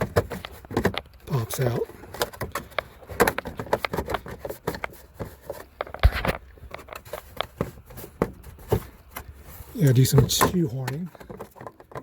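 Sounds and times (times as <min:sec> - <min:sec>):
hard plastic clicking and knocking: 0:00.0 - 0:01.3, 0:02.1 - 0:09.3, 0:10.1 - 0:12.0.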